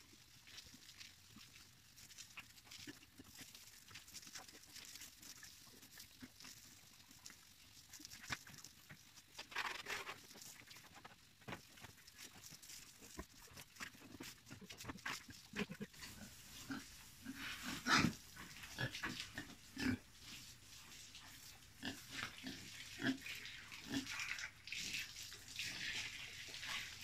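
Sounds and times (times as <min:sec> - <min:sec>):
hose water splashing: 0:00.0 - 0:27.0.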